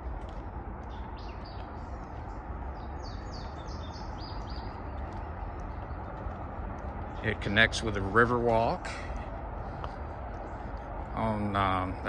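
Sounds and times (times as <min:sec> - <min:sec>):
low outdoor background rush: 0:00.0 - 0:12.0
songbird singing: 0:00.0 - 0:12.0.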